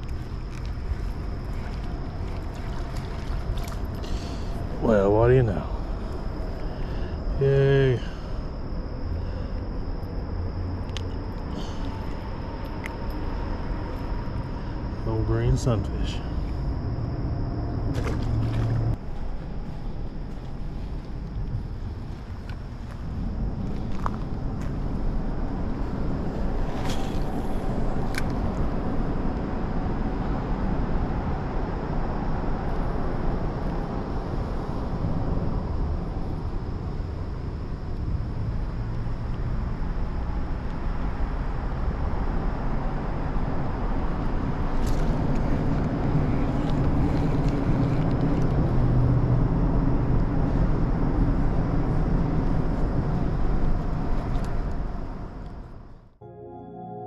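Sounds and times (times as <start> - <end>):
road traffic rumble: 0.0 - 56.1.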